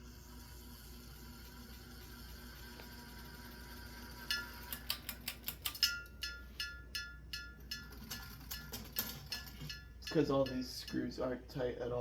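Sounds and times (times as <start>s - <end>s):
faint steady hum: 0.0s - 12.0s
ceiling fan clinking: 1.2s - 12.0s.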